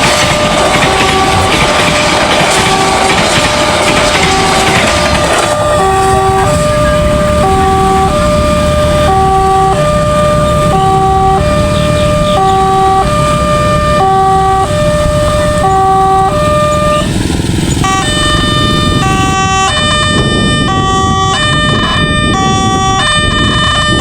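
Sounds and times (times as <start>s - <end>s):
two-tone level-crossing alarm: 0.0s - 24.0s.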